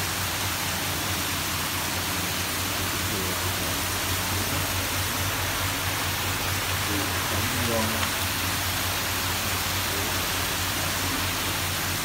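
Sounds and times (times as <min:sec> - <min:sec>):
water splashing into a tank: 0:00.0 - 0:12.0.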